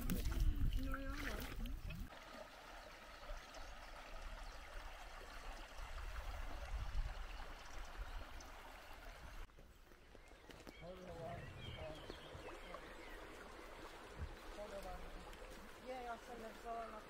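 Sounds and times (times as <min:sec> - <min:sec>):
brook flowing over a riffle: 0:00.0 - 0:17.0.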